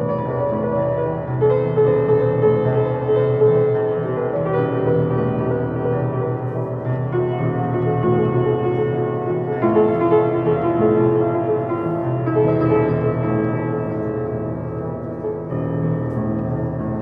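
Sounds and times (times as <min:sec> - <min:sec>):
piano slow held chords: 0:00.0 - 0:17.0.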